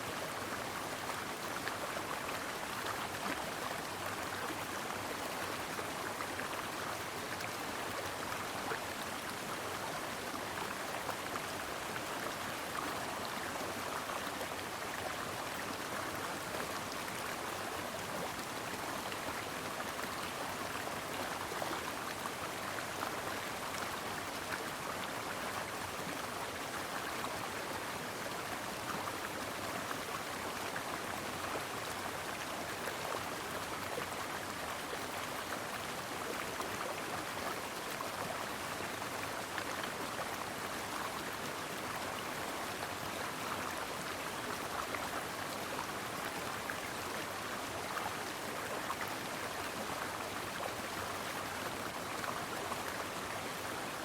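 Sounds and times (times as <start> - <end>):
brook flowing: 0.0 - 54.0.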